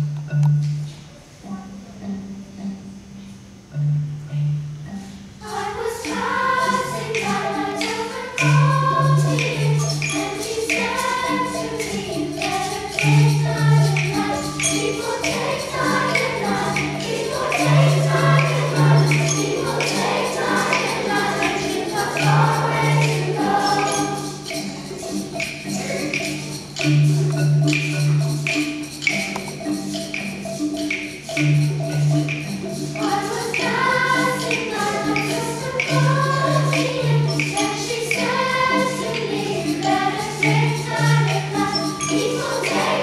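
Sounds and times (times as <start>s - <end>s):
xylophones playing low notes: 0.0s - 43.0s
children's choir singing: 5.4s - 43.0s.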